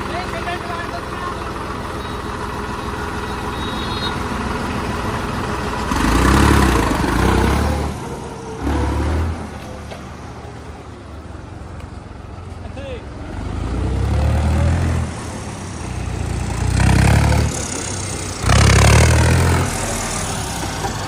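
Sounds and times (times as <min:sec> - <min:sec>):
tractor engine revving: 0:00.0 - 0:10.9, 0:12.3 - 0:21.0.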